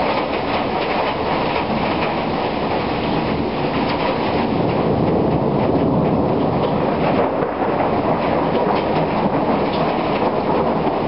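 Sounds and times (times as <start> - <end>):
rain: 0.0 - 11.0
thunder rumbling: 0.0 - 11.0.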